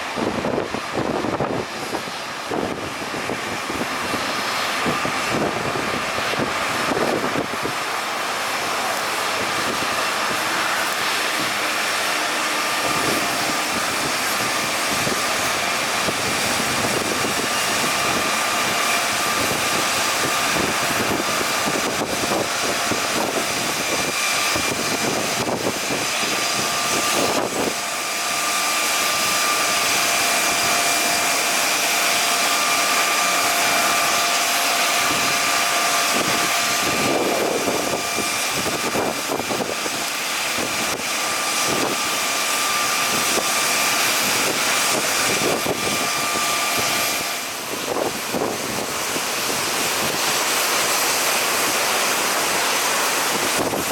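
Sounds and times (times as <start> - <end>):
jet engines idling with high whine: 0.0 - 53.9.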